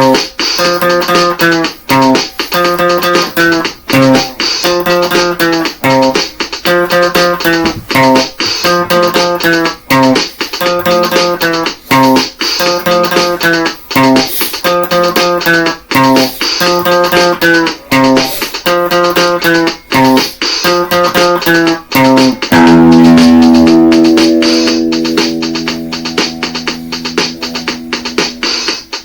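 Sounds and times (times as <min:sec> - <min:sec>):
guitar chord ringing: 0:00.0 - 0:29.0
plucked guitar phrase: 0:00.0 - 0:29.0.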